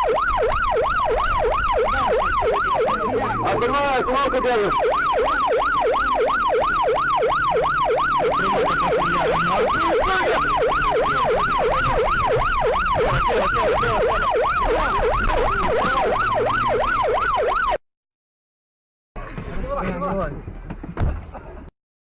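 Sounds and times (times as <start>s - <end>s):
electronic siren yelping: 0.0s - 17.8s.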